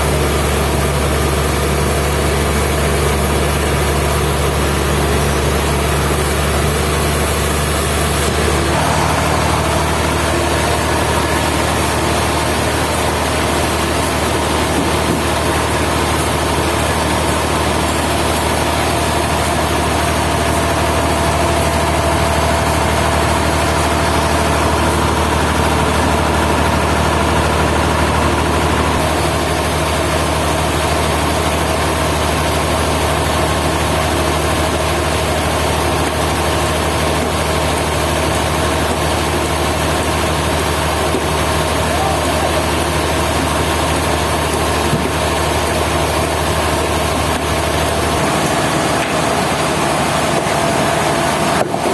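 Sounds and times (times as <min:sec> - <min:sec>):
sawmill machinery drone: 0:00.0 - 0:51.9.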